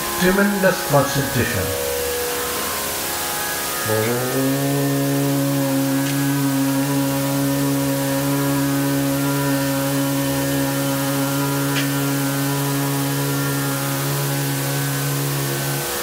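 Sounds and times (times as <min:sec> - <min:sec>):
man singing a sustained note: 0:00.0 - 0:16.0.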